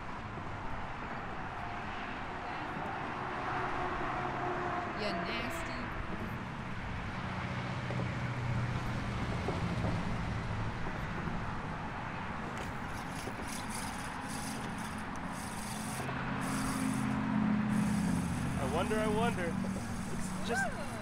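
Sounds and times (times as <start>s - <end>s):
vehicle engine humming: 0.0s - 21.0s
wind: 0.0s - 21.0s.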